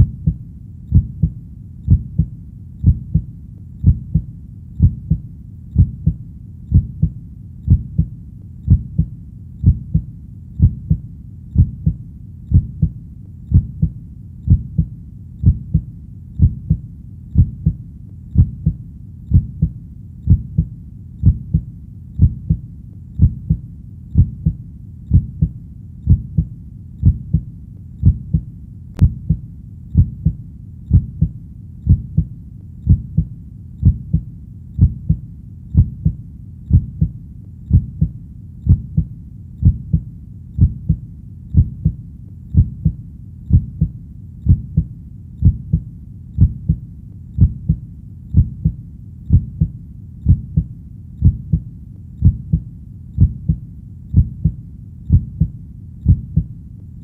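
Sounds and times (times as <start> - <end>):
heartbeat thumps: 0.0 - 56.5
faint low background rumble: 0.0 - 57.0.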